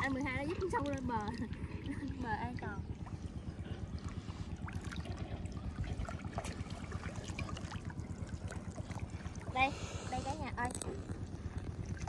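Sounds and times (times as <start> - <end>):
small splashes and drips: 0.0 - 9.7
low unsteady rumble: 0.0 - 12.0
water sloshing and trickling: 0.0 - 12.0.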